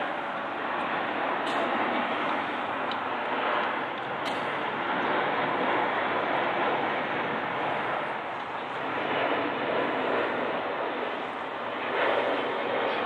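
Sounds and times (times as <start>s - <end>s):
airliner flying overhead: 0.0s - 13.0s.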